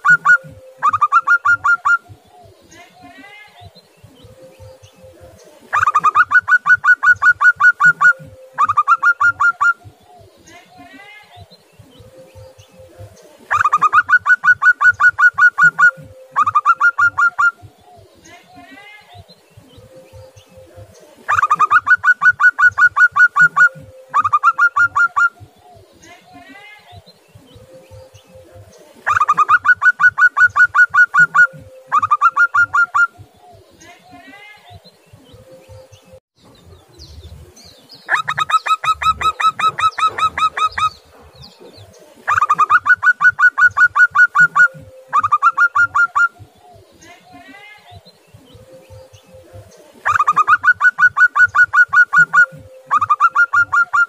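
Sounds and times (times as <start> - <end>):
dove calling: 0.0 - 54.0.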